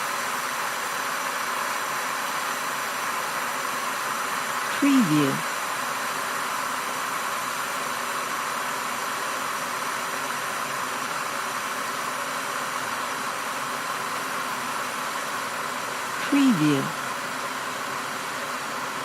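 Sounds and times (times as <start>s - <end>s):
water boiling in a kettle: 0.0s - 4.7s, 5.5s - 16.2s.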